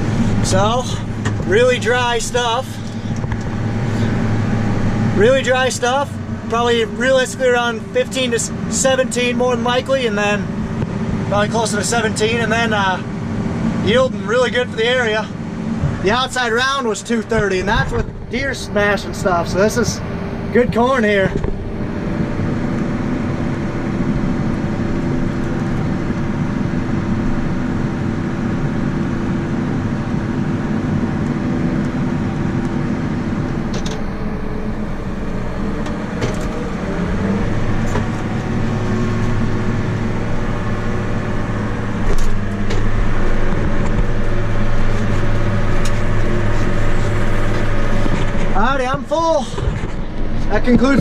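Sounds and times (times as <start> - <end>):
deeper steady hum: 0.0 - 51.0
diesel engine running under load: 0.0 - 51.0.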